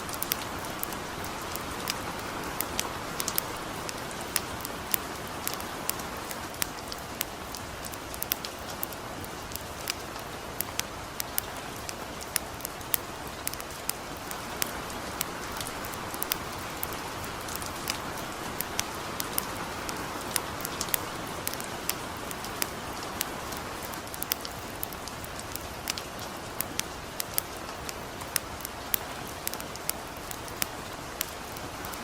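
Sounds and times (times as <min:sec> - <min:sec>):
campfire crackling and popping: 0:00.0 - 0:32.0
light rain hissing: 0:00.0 - 0:32.0.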